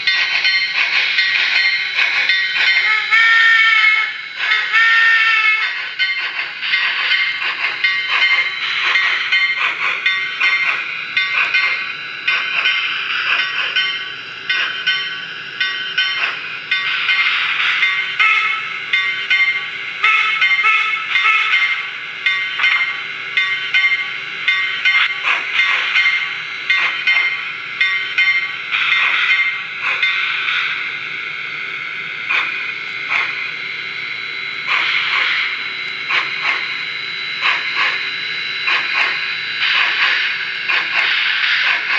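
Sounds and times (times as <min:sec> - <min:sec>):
tinny steam engine chuffs and hiss: 0:00.0 - 0:31.0, 0:32.2 - 0:41.9.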